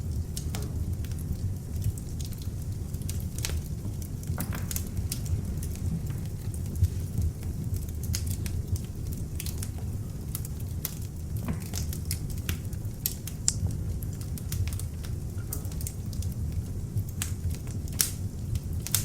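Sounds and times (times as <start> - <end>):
log fire crackling: 0.0 - 19.0.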